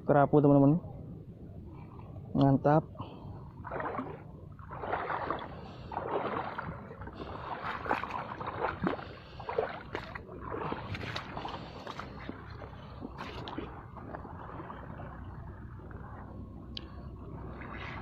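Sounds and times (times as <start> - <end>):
waves sloshing on shore: 2.8 - 18.0.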